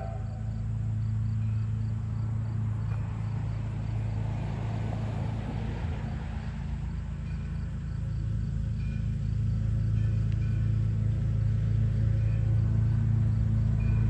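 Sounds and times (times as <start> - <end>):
distant steam locomotive rumble: 0.0 - 14.0.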